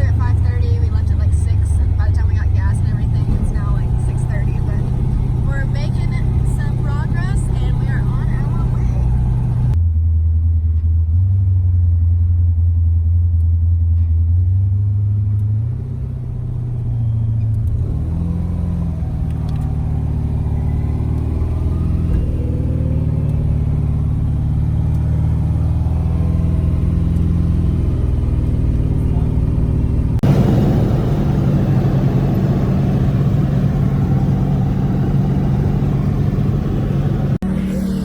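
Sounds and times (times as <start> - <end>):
car engine running: 0.0 - 9.8, 15.3 - 38.0.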